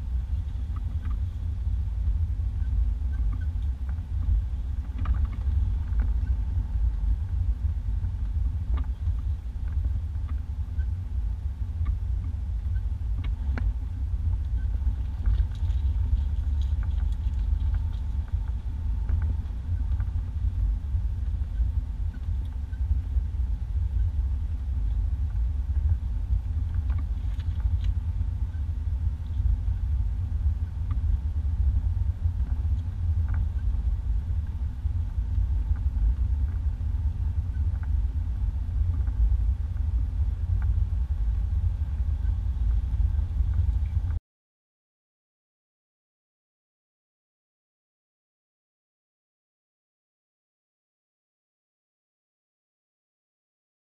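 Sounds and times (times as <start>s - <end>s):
engine and tyre rumble: 0.0s - 44.2s.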